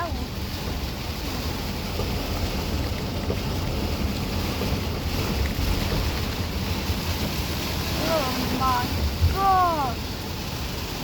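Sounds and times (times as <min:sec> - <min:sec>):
wind buffeting microphone: 0:00.0 - 0:10.9
heavy rain pouring: 0:00.0 - 0:11.0.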